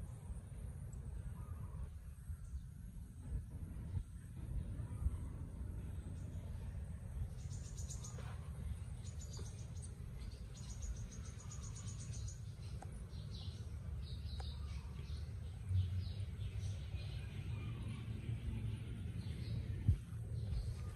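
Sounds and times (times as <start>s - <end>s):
low rumble: 0.0s - 20.9s.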